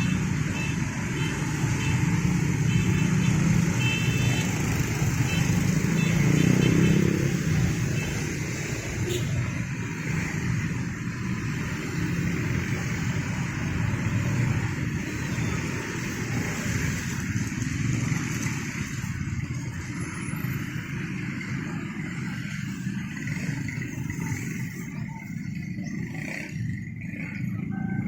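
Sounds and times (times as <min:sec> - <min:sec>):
rumble of passing vehicles: 0:00.0 - 0:28.0.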